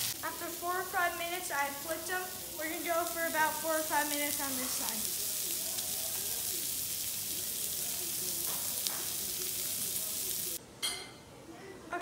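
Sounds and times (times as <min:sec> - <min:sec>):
fish fillets sizzling in a pan: 0:00.0 - 0:10.6.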